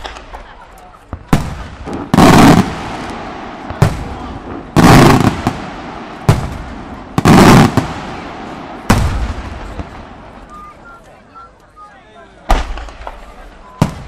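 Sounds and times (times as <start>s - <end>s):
fireworks exploding: 0.0s - 11.2s, 12.5s - 14.0s.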